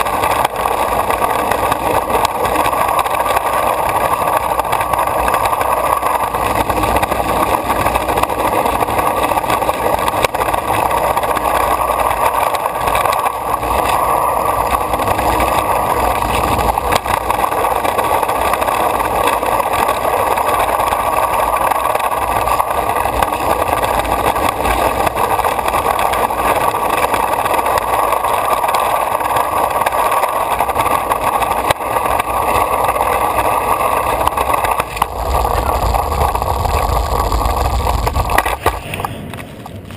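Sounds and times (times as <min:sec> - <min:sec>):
skateboard wheels rolling on concrete: 0:00.0 - 0:39.9.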